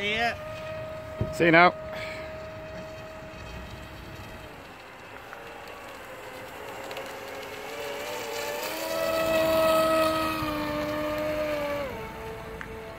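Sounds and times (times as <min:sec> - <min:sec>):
drone motors and propellers whining: 0:00.0 - 0:12.9.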